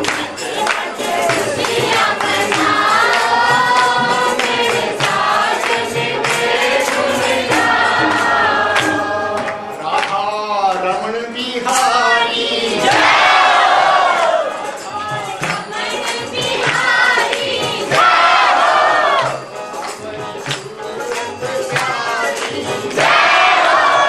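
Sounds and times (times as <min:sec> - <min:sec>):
hand claps: 0:00.0 - 0:11.0, 0:12.9 - 0:24.0
group singing devotional song: 0:00.0 - 0:24.0.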